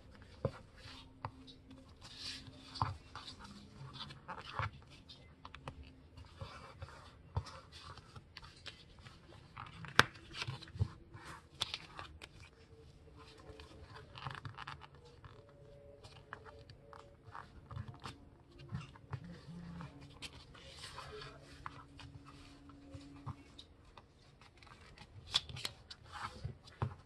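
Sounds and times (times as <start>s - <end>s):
paper rustling and crinkling: 0.0s - 27.0s.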